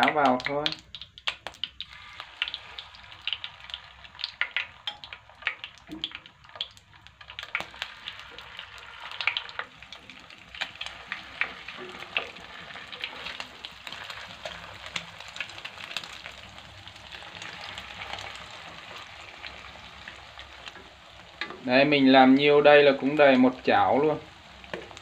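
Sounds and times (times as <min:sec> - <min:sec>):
fish sizzling in hot oil: 0:00.0 - 0:25.0
oil crackling and spattering: 0:00.0 - 0:25.0.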